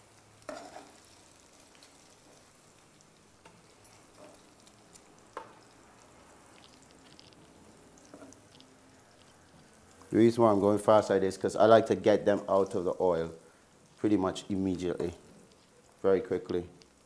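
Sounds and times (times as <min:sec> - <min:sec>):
frying oil sizzling: 0:00.0 - 0:17.0.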